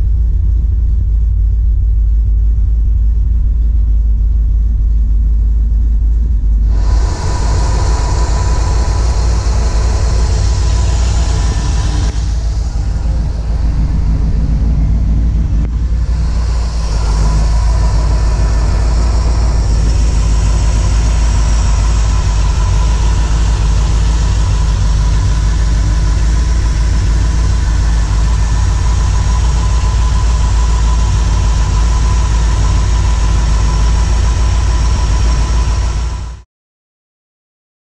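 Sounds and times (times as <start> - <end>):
car engine idling: 0.0 - 36.4.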